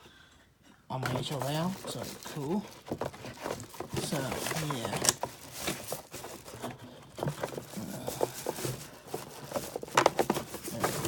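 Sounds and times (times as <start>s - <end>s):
hands handling packaging: 1.0s - 11.0s.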